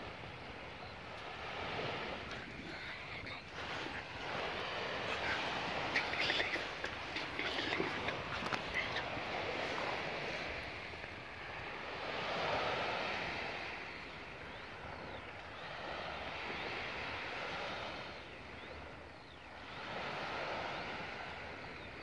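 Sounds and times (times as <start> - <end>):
small waves washing on shore: 0.0 - 22.0.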